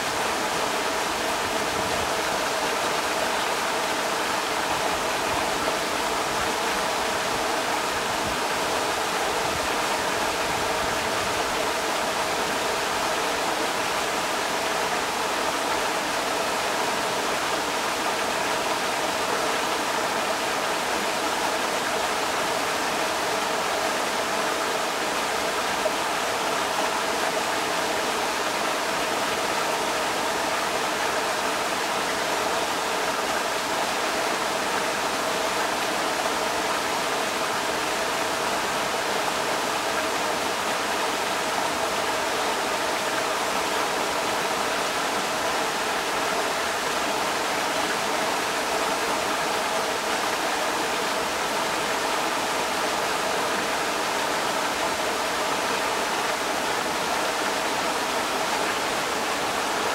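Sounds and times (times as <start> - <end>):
creek water rushing over rocks: 0.0 - 59.9.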